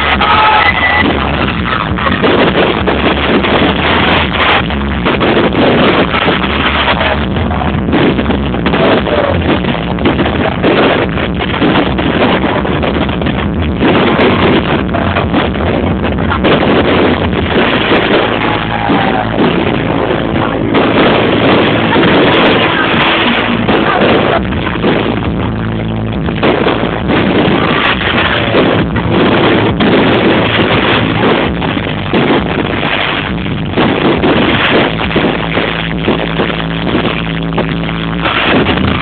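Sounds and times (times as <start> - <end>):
loud distorted music: 0.0 - 39.0
steady wash of noise: 0.0 - 39.0.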